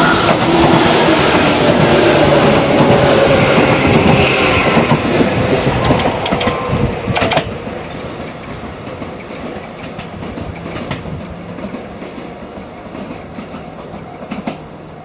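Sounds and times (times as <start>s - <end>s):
train wheel and rail noise: 0.0s - 15.0s
train wheel clatter: 0.0s - 15.0s.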